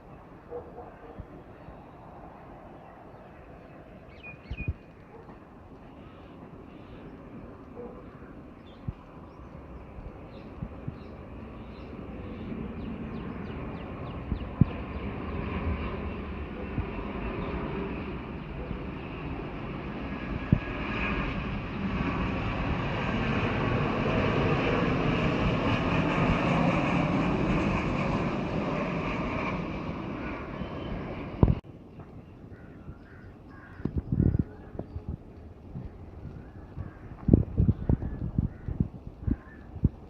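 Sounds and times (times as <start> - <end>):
jet airliner passing: 0.0 - 40.0.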